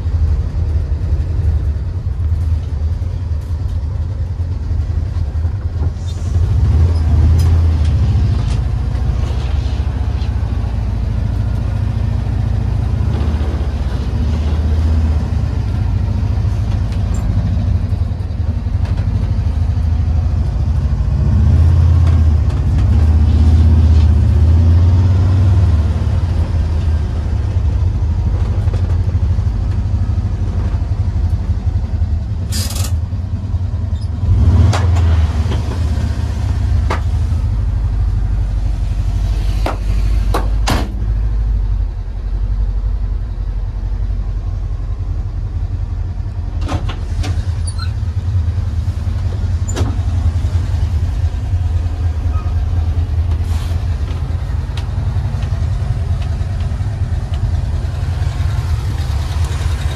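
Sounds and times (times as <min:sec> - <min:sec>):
engine low rumble: 0:00.0 - 0:59.9
road noise: 0:00.0 - 0:59.9.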